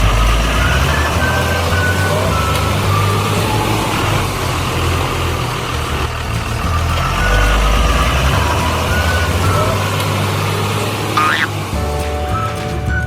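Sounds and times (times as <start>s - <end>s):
high electronic beeps: 0.0s - 5.1s, 6.2s - 13.0s
toy engine rumble: 0.0s - 13.0s.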